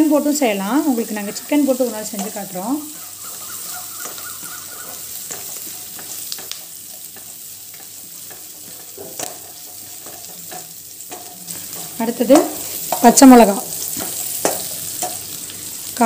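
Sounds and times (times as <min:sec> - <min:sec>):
onions sizzling in hot oil: 0:00.0 - 0:16.0
spatula scraping and tapping pan: 0:01.0 - 0:15.4.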